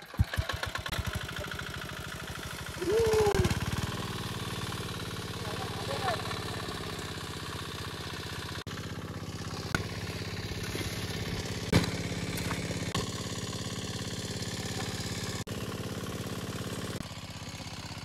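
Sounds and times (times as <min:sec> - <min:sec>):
water pump engine pulsing: 0:00.0 - 0:18.0.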